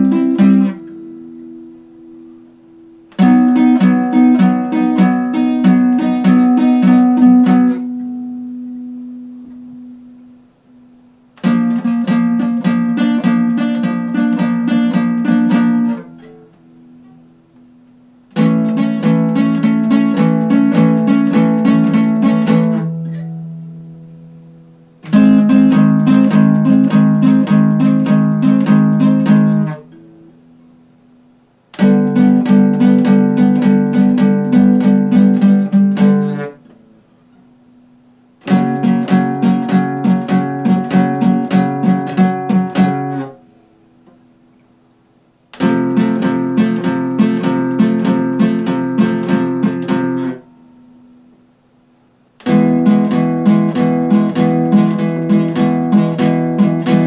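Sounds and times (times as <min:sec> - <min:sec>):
acoustic guitar strumming: 0:00.0 - 0:51.8, 0:52.4 - 0:57.0.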